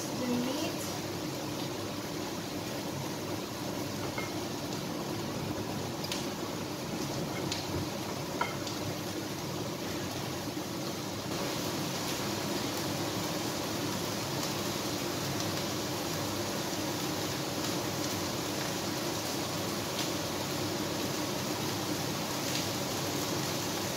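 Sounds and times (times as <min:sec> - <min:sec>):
room noise hiss and hum: 0:00.0 - 0:23.9.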